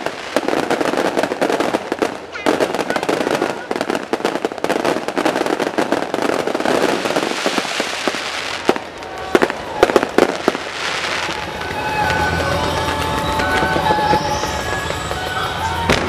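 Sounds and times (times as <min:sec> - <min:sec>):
fireworks crackling: 0:00.0 - 0:16.0
loud firework bangs: 0:00.0 - 0:16.0.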